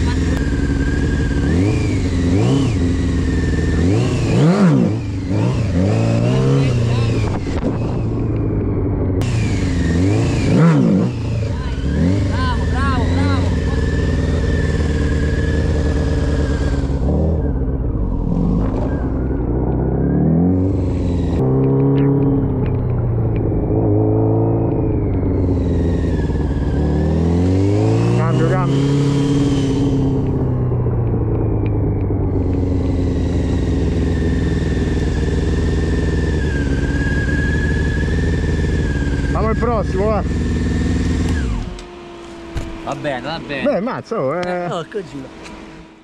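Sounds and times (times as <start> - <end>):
motorcycle engine under throttle: 0.0 - 46.0.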